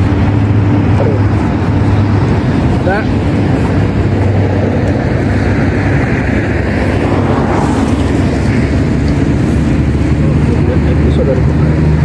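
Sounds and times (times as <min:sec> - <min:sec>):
engine rumble: 0:00.0 - 0:12.0
road traffic noise: 0:00.0 - 0:12.0.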